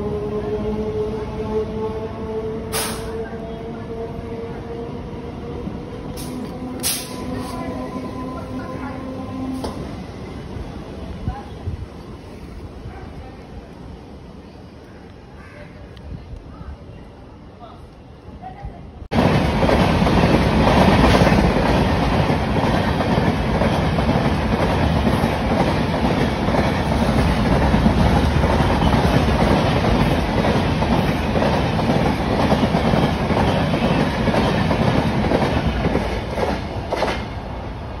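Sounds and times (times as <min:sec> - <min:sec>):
train coaches rumbling: 0:00.0 - 0:15.4, 0:16.2 - 0:38.0.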